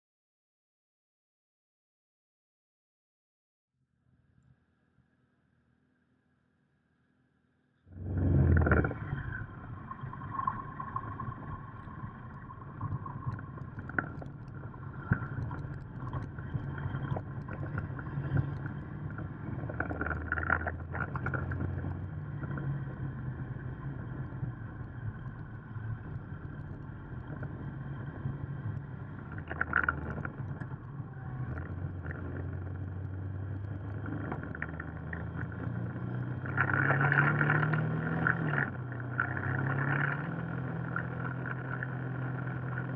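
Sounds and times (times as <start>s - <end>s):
wind and road noise: 7.9s - 42.9s.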